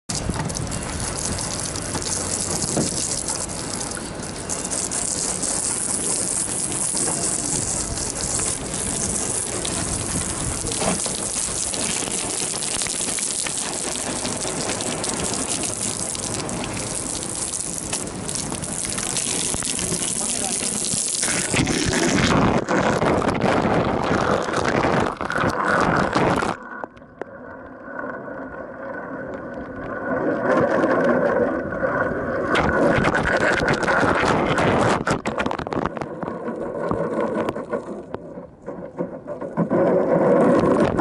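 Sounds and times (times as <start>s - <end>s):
water spraying onto boat: 0.1s - 26.6s, 30.0s - 41.0s.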